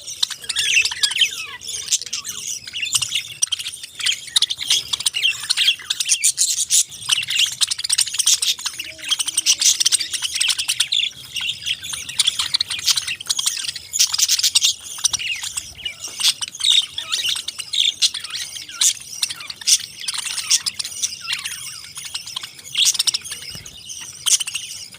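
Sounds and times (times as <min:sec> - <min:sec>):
parakeets chirping and chattering: 0:00.0 - 0:24.9.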